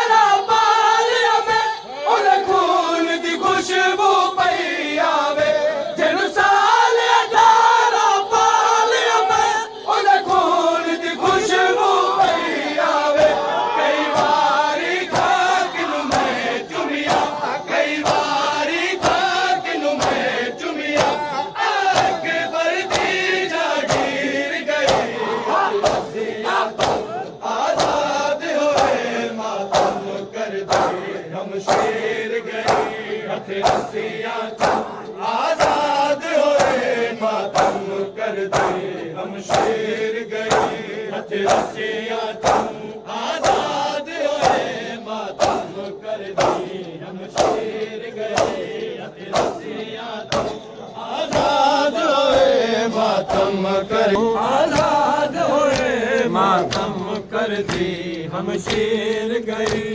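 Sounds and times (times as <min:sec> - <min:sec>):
men chanting in unison: 0:00.0 - 0:59.9
hands slapping chests: 0:11.2 - 0:59.9.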